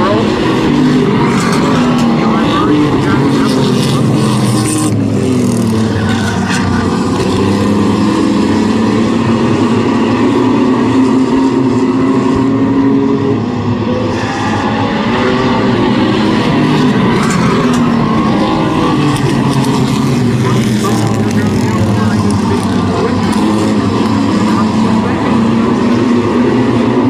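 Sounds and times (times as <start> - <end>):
race truck engines: 0.0 - 27.0.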